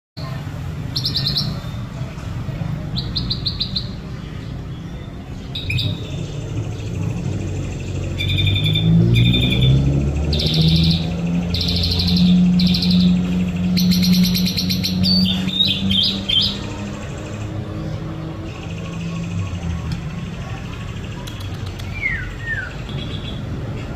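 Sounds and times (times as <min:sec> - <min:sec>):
bird singing: 0:00.2 - 0:02.0, 0:02.8 - 0:23.6.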